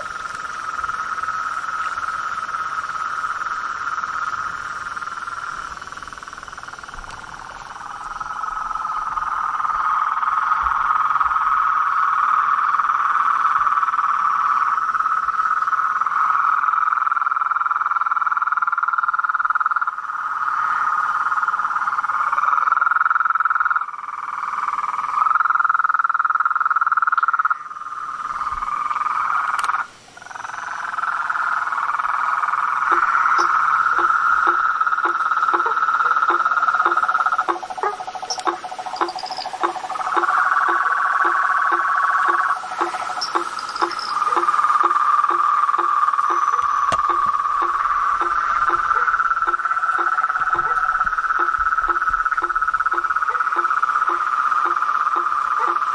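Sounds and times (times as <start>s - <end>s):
chorus of frogs calling: 0.0s - 55.9s.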